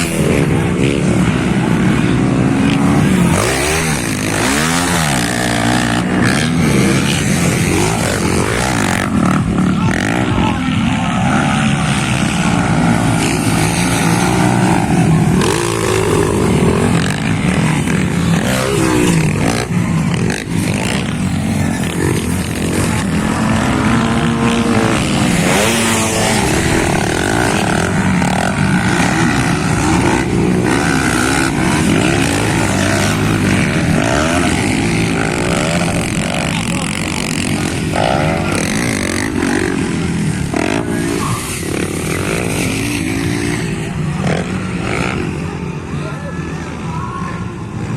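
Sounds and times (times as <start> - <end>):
motocross engines revving: 0.0 - 47.9.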